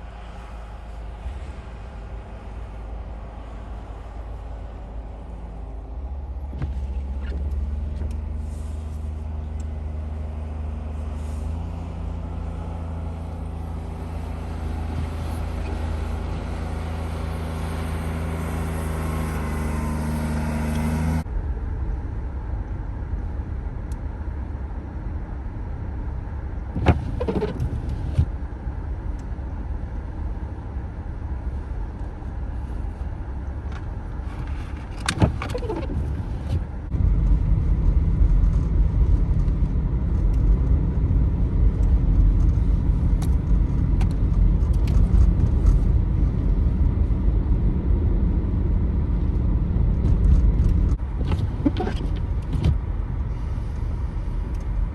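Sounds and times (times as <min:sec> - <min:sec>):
car engine and road hum: 0:00.0 - 0:54.9
rough engine rumble: 0:00.0 - 0:54.9.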